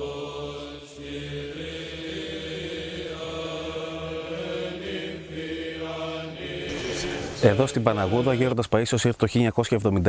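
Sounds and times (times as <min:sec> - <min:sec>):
slow vocal chanting: 0:00.0 - 0:08.6.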